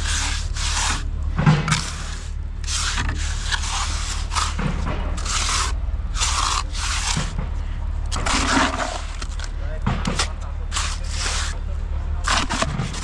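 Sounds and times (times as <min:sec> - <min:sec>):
hand rubbing rough surface: 0:00.0 - 0:13.0.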